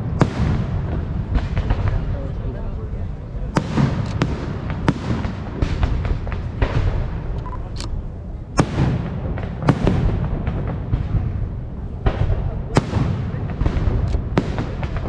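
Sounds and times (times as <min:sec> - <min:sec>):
fireworks sharp cracks: 0:00.0 - 0:02.3, 0:03.6 - 0:15.0
fireworks rumbling bursts: 0:00.0 - 0:15.0.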